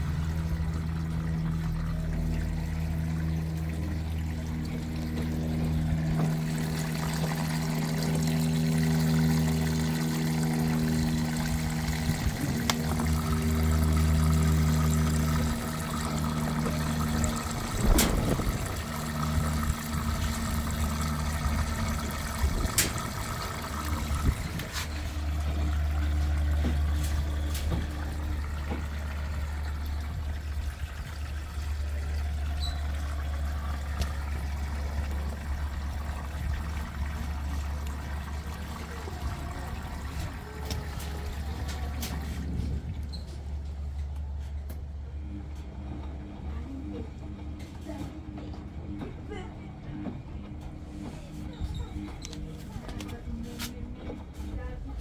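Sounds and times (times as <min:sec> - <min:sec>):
water rushing into washing machine: 0:00.0 - 0:45.1
washing machine hum: 0:00.0 - 0:55.0.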